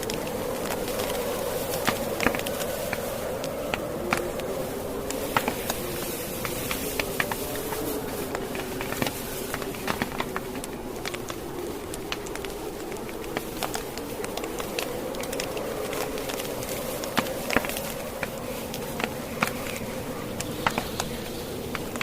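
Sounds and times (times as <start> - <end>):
blizzard wind moaning: 0.0 - 22.0
fire crackling and popping: 0.0 - 22.0.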